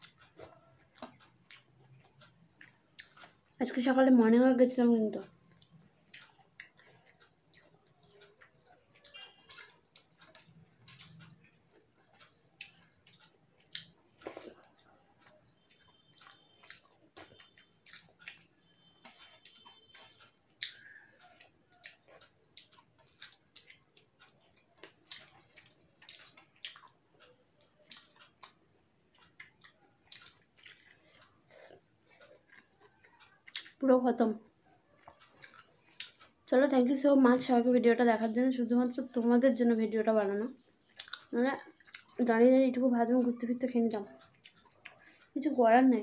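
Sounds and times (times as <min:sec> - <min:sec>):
faint chewing: 0:00.0 - 0:46.0.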